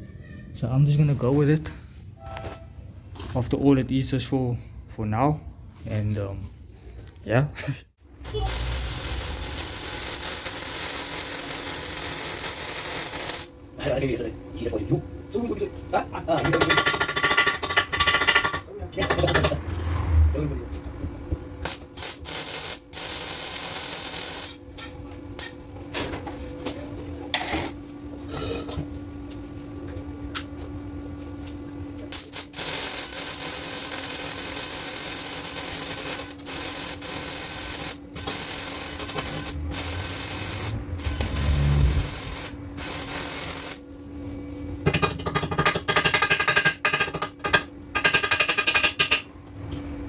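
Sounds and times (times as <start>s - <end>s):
steady low hum: 0.6s - 45.0s.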